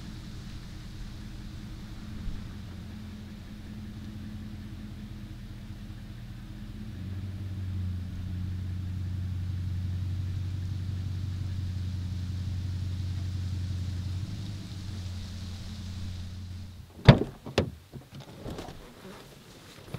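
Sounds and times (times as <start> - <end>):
truck engine running: 0.0 - 17.9.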